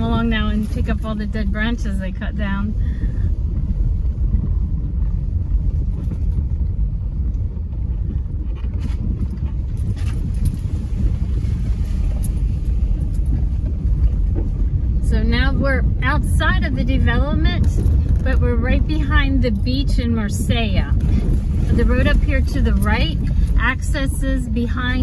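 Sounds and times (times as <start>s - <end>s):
car driving on dirt road: 0.0s - 25.0s.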